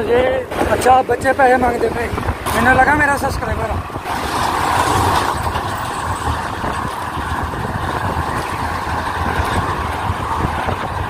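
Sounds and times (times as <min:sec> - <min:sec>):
road noise: 0:00.0 - 0:11.0
wind rushing on microphone: 0:00.0 - 0:11.0.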